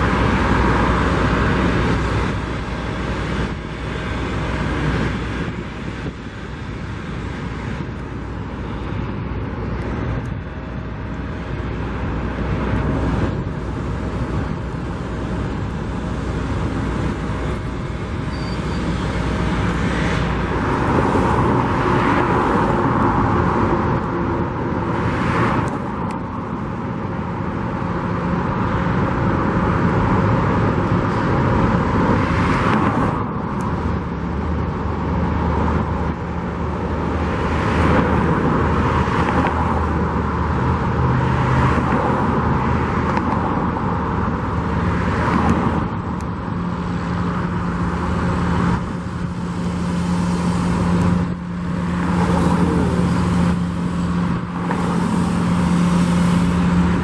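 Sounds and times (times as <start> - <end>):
cars passing: 0.0 - 57.0
low engine hum: 0.0 - 57.0.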